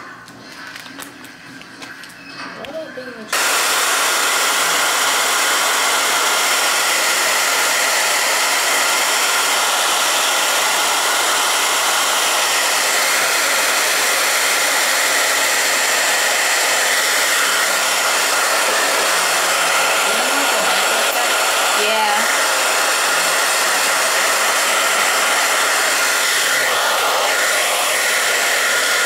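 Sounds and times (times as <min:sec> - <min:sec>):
hair dryer blowing: 0:02.7 - 0:29.0.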